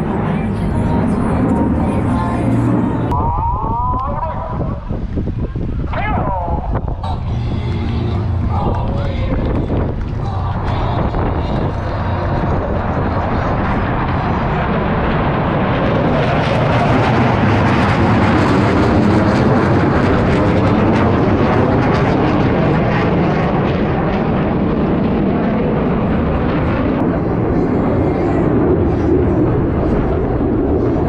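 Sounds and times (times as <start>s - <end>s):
jet engines roaring overhead: 0.0s - 31.0s.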